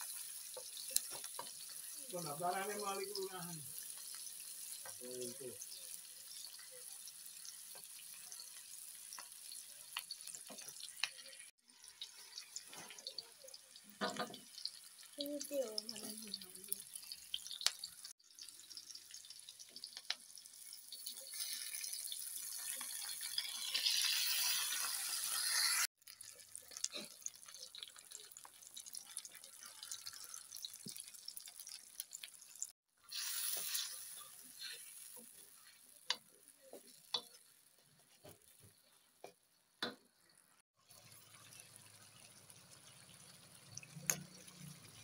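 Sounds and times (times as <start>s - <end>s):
oil and onions sizzling in wok: 0.0s - 45.0s.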